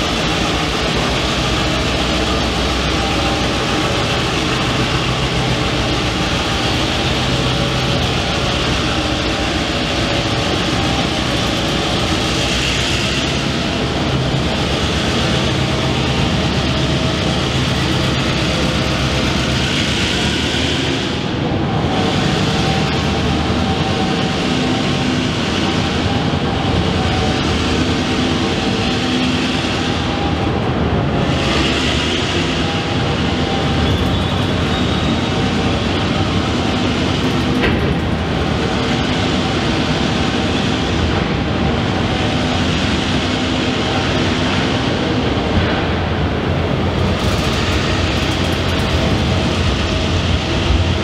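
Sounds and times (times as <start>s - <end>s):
freight wagons rolling on rails: 0.0s - 51.0s.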